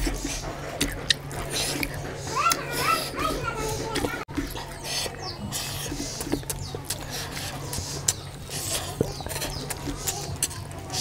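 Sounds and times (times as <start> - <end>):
sharp wet mouth clicks: 0.0 - 3.2, 4.0 - 11.0
man chewing food: 0.0 - 11.0.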